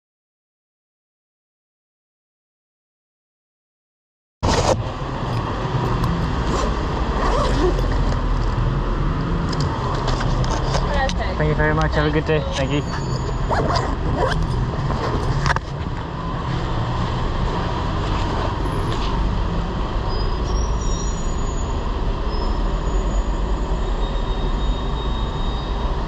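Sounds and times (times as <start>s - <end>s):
street traffic rumble: 4.4s - 26.0s.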